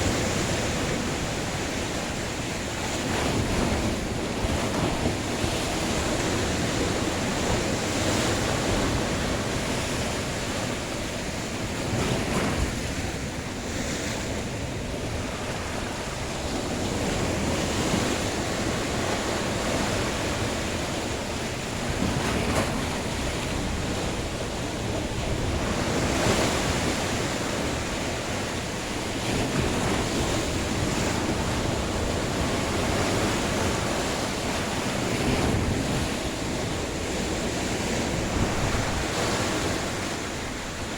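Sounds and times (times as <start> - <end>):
sea waves breaking: 0.0 - 40.9
wind on microphone: 0.0 - 40.9.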